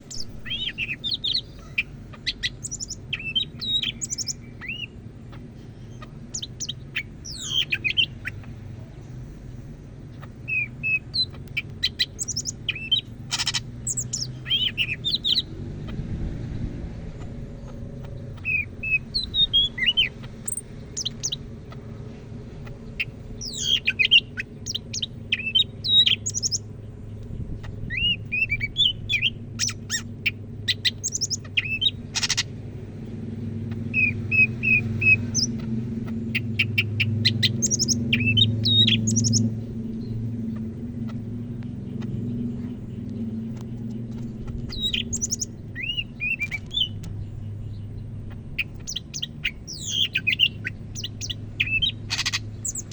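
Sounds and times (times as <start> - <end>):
bird singing whistles and chirps: 0.0 - 5.0, 6.0 - 8.4, 10.2 - 15.5, 18.0 - 21.4, 23.0 - 26.7, 27.9 - 32.5, 33.7 - 52.9
low hum: 0.0 - 52.9.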